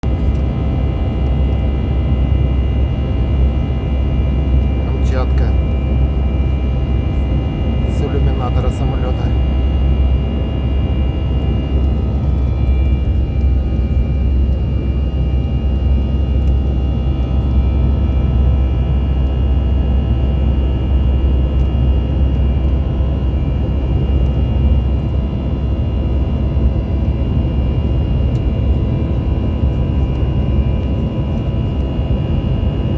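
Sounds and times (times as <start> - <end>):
airplane engine and airflow drone: 0.0 - 32.9.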